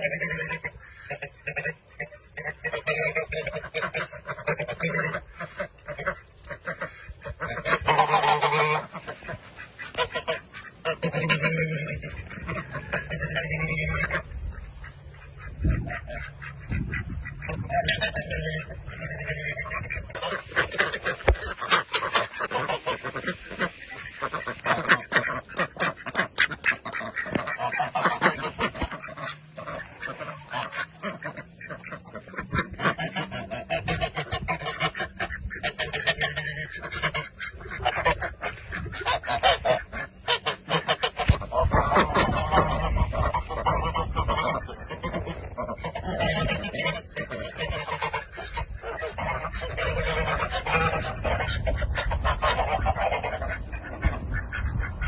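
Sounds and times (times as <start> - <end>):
ducks quacking: 0.0 - 55.0.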